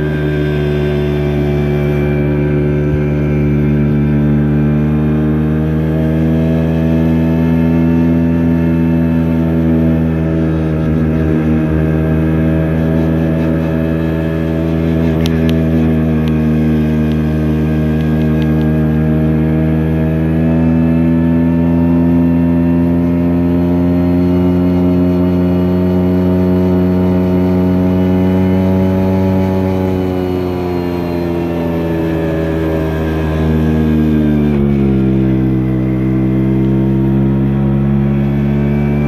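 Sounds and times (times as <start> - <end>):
scooter engine running: 0.0 - 39.0.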